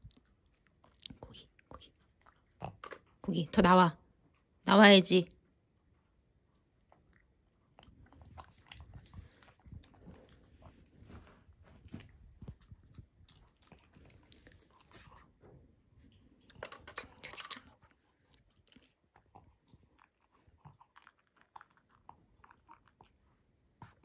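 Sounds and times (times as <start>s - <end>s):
dog chewing and crunching food: 0.0s - 3.5s, 6.6s - 24.0s.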